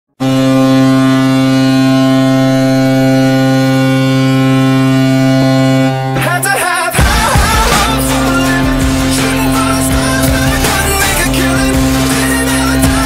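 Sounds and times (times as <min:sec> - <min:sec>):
hockey goal horn blast: 0:00.1 - 0:13.0.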